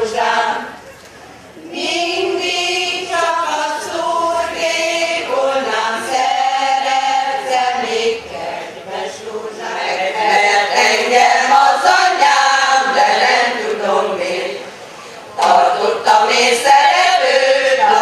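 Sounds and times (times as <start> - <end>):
women's choir singing: 0.0 - 0.8, 1.6 - 18.0.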